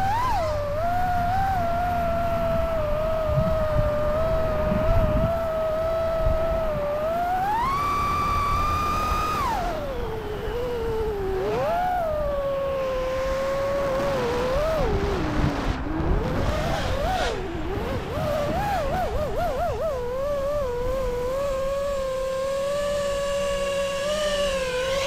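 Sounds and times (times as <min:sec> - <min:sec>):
quadcopter motors whining: 0:00.0 - 0:25.0
wind rumble: 0:00.0 - 0:25.0.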